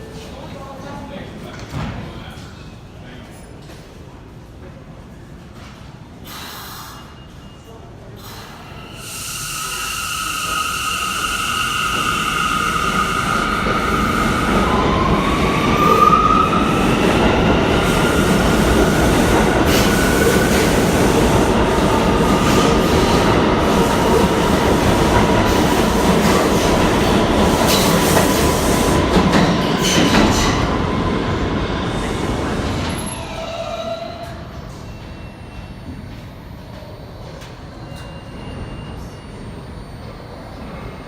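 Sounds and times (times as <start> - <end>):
subway train squealing: 2.2 - 41.0.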